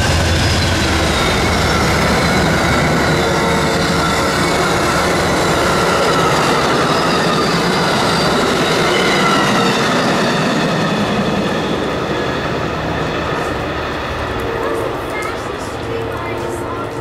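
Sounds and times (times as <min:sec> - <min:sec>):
train cars rushing past: 0:00.0 - 0:17.0.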